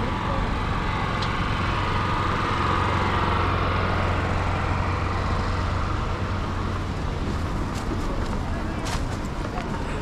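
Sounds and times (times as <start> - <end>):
engine-like hum: 0.0 - 10.0.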